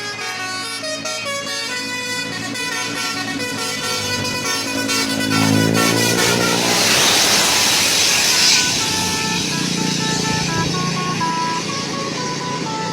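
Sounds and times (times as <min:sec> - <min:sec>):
low engine hum: 0:00.0 - 0:12.9
musical air horn: 0:00.0 - 0:12.9.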